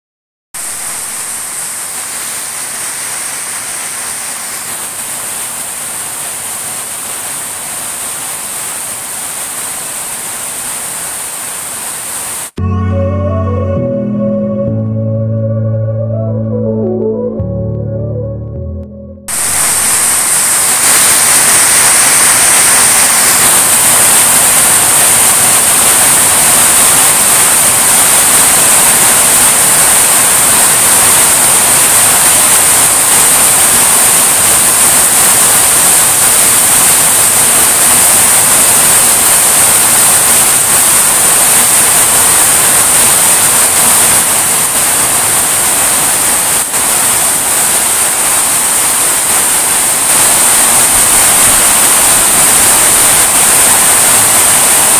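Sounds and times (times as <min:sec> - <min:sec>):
heavy rain pouring: 0:00.6 - 0:12.6, 0:19.3 - 0:54.9.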